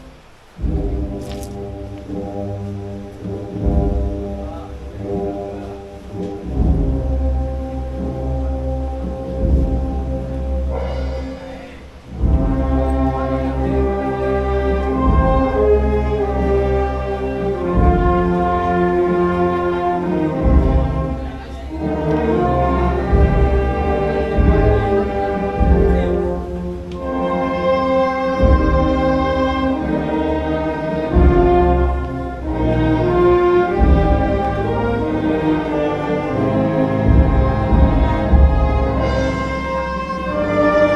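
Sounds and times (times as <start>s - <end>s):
slow orchestral music with brass: 0.0s - 40.9s.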